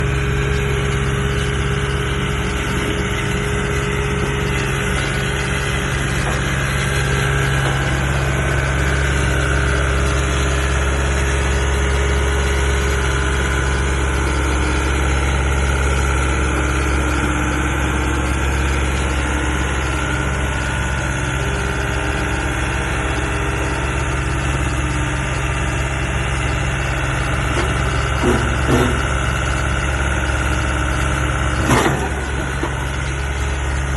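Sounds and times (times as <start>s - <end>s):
skid steer engine running: 0.0s - 33.9s.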